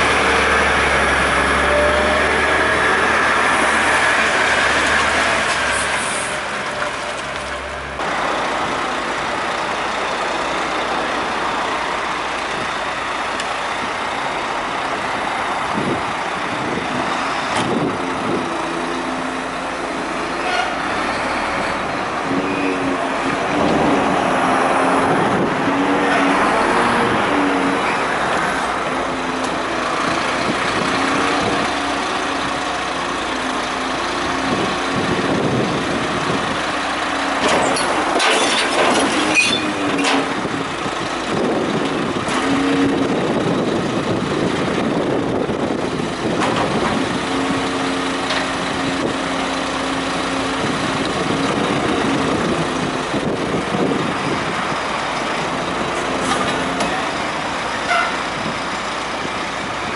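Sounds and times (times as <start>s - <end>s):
rubbish truck machinery hum: 0.0s - 59.9s.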